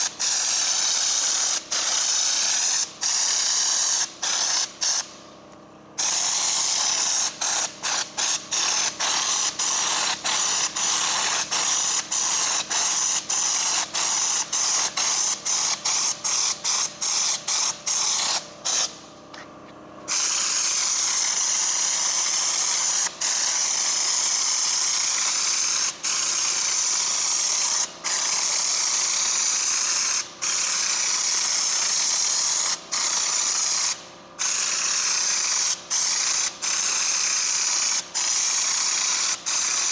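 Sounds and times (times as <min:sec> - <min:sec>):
spray gun hissing: 0:00.0 - 0:05.2, 0:06.0 - 0:19.1, 0:20.1 - 0:39.9.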